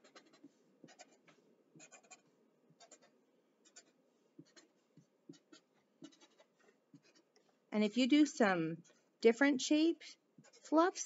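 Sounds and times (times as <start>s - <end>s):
marker scratching on paper: 0.0s - 7.6s, 8.8s - 9.2s, 9.9s - 11.0s.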